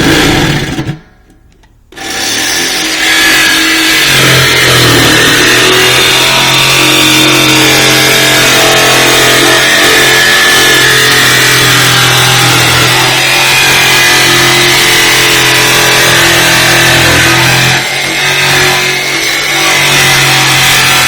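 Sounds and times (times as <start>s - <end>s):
jigsaw cutting steel: 0.0s - 1.0s, 1.9s - 21.0s.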